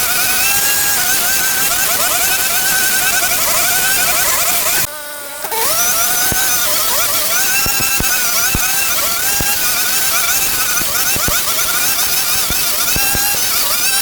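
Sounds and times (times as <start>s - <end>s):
sharp ticks: 0.0s - 14.0s
small power tool engine: 0.0s - 14.0s.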